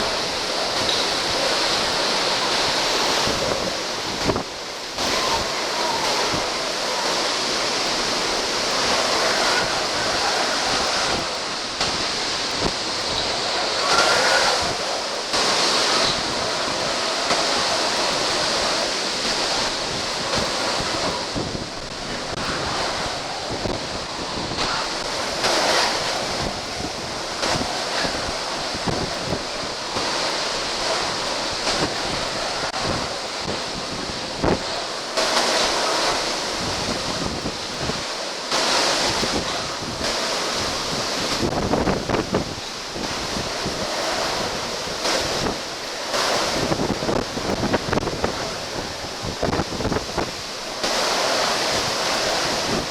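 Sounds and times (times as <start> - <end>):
driving rain: 0.0 - 52.9
strong gusting wind: 0.0 - 52.9
wind buffeting microphone: 0.0 - 52.9.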